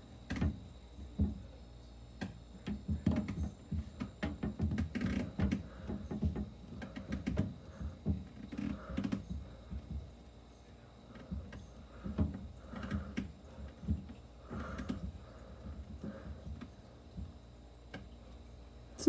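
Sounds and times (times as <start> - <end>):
knocks and clicks in refrigerator: 0.2 - 1.5, 2.2 - 10.1, 11.1 - 18.2.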